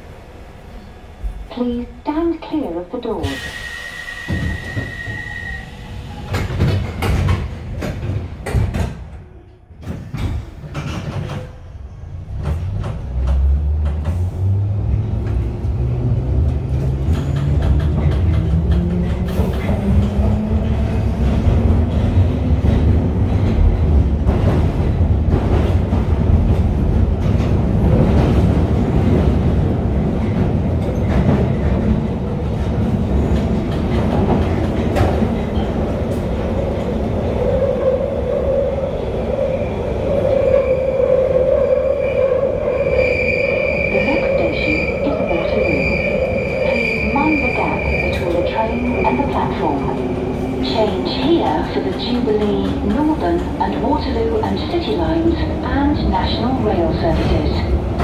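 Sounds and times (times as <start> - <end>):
train running rumble: 4.2 - 41.6, 43.9 - 58.0.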